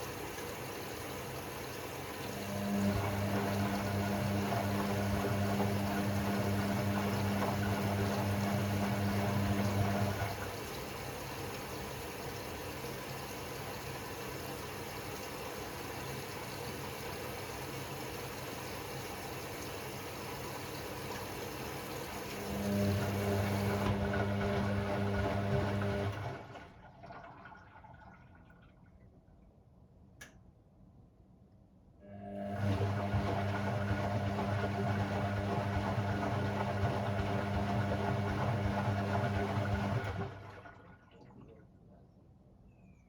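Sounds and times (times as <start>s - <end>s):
washing machine electrical hum: 0.0s - 30.7s, 31.9s - 42.3s.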